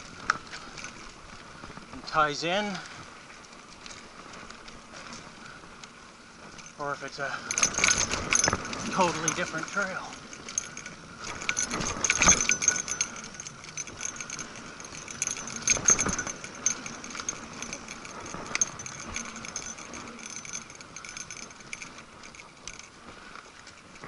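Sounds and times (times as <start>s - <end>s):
bike chain and frame clattering: 0.0s - 24.0s
bike jolts: 0.0s - 24.0s
tyres on dirt and dry leaves: 0.0s - 24.0s.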